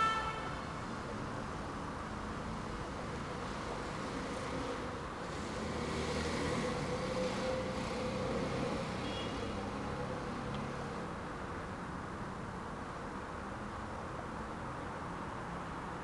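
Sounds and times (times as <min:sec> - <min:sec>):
diesel locomotive engine drone: 0:00.0 - 0:16.0.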